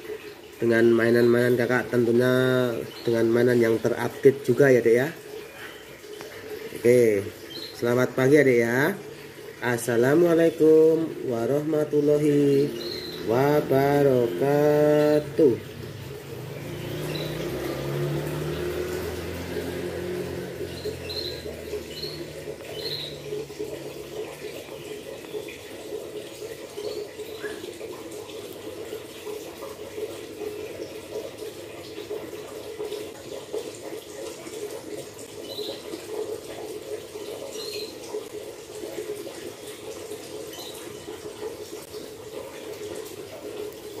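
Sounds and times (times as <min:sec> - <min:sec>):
running splashing water: 0:00.0 - 0:44.0.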